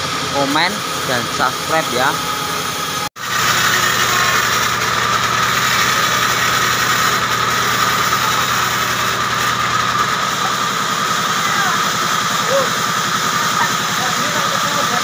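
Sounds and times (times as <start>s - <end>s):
band saw cutting log: 0.0s - 15.0s
high blade tone: 0.3s - 14.9s.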